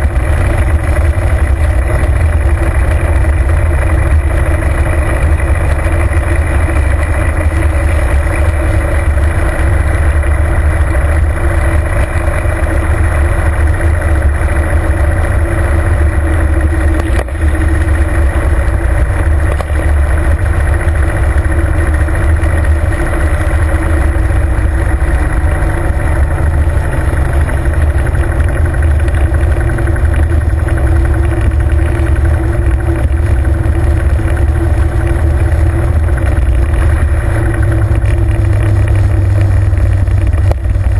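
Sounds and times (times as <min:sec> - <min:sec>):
motorcycle engine cruising: 0:00.0 - 0:40.9
road noise: 0:00.0 - 0:40.9.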